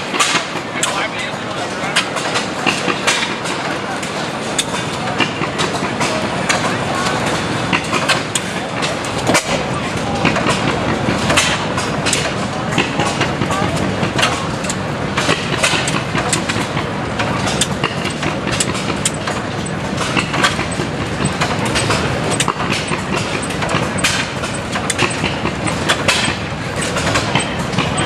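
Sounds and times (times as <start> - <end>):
stationary gas engine clattering: 0.0 - 28.0.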